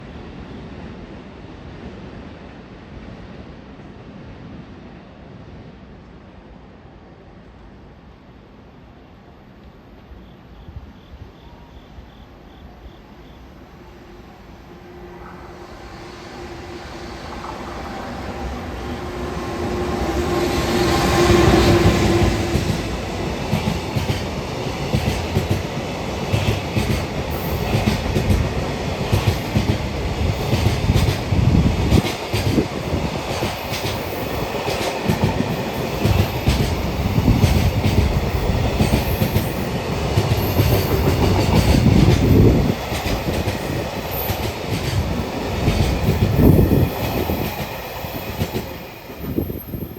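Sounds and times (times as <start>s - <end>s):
electric locomotive passing: 0.0s - 49.9s.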